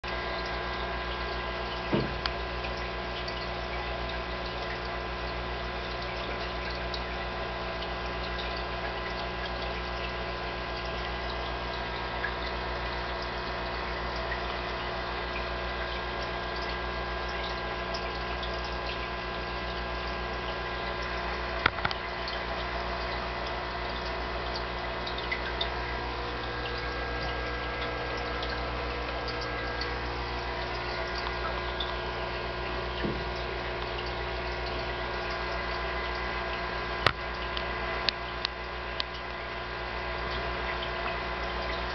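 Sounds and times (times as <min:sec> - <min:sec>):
aquarium pump humming: 0:00.0 - 0:41.9.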